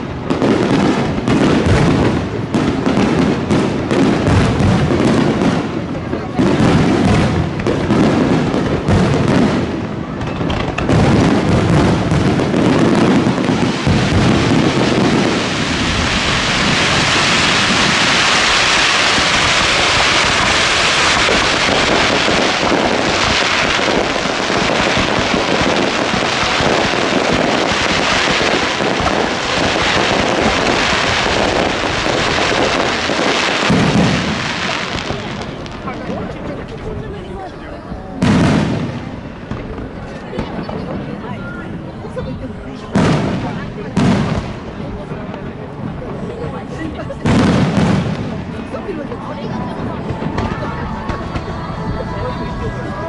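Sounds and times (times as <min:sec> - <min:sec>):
fireworks booming: 0:00.0 - 0:53.0
fireworks crackling: 0:00.0 - 0:53.0.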